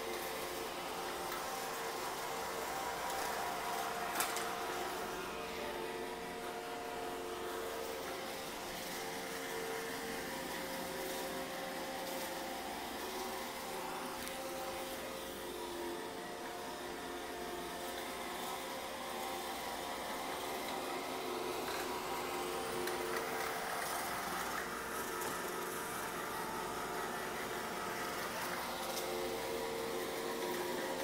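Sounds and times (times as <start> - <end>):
robot vacuum whirring hum: 0.0 - 31.0.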